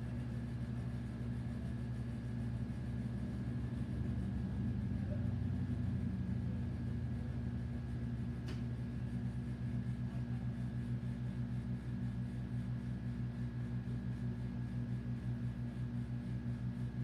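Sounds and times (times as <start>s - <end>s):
air conditioner compressor humming: 0.0s - 17.0s.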